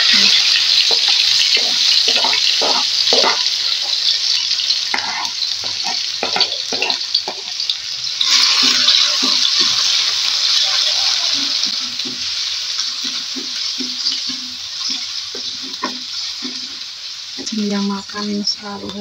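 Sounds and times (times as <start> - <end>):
food sizzling in hot oil: 0.0 - 19.0
spatula scraping and knocking wok: 0.0 - 19.0.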